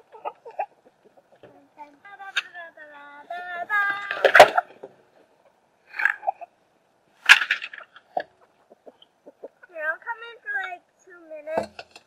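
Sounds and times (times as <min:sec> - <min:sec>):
chickens calling: 0:00.0 - 0:10.7.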